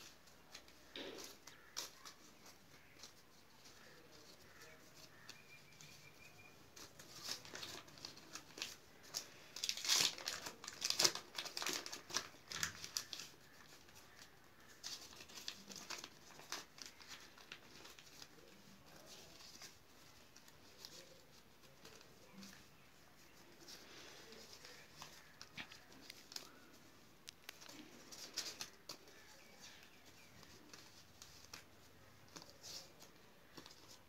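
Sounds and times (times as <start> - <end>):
paper banknotes rustling: 0.0 - 34.0.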